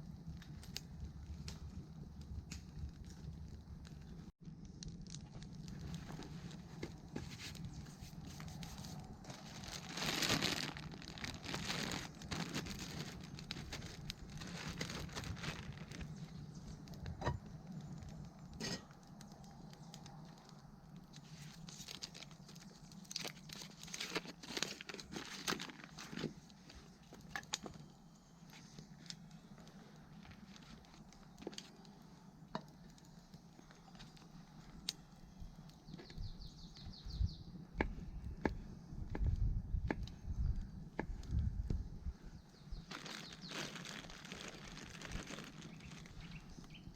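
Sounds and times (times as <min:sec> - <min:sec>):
rustling and crinkling: 0:00.0 - 0:36.3, 0:41.0 - 0:46.9.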